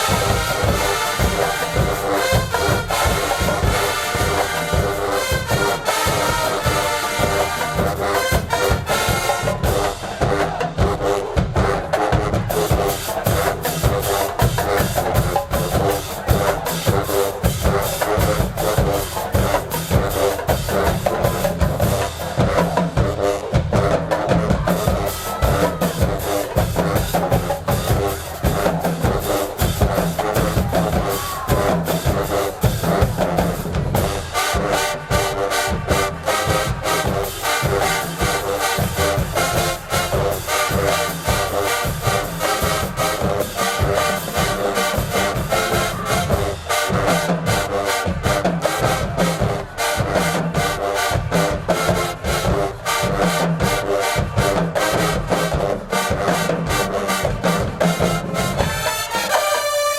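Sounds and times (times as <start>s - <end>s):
marching band brass: 0.0s - 59.9s.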